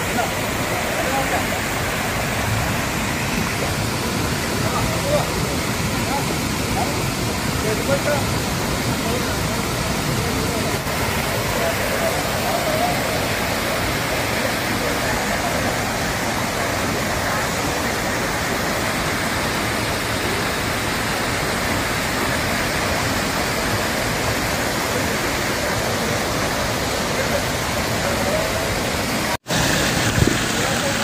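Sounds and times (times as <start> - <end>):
water cascading over rocks: 0.0 - 31.0.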